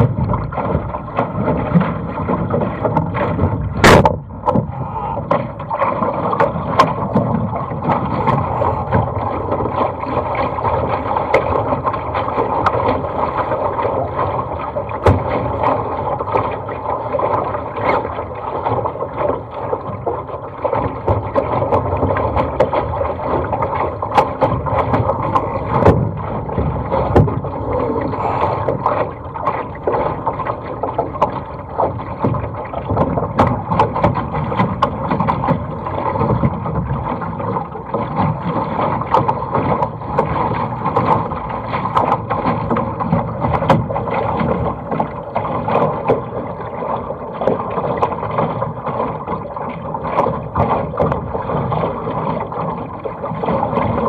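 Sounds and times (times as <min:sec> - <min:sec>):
water rushing along boat hull: 0:00.0 - 0:54.0
waves slapping: 0:00.0 - 0:54.0.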